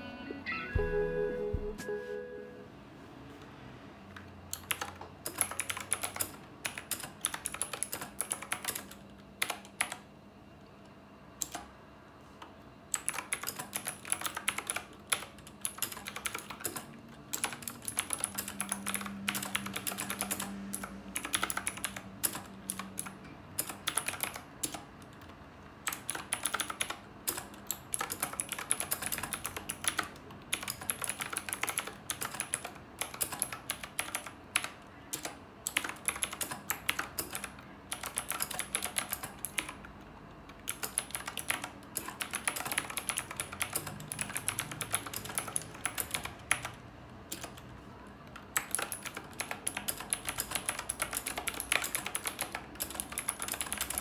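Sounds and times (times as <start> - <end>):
fast typing on mechanical keyboard: 4.5 - 10.0, 11.4 - 11.7, 12.9 - 47.7, 48.3 - 54.0.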